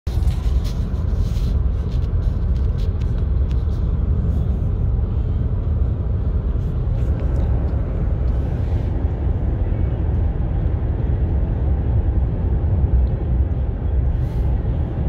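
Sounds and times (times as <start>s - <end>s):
car driving at road speed: 0.1s - 15.0s.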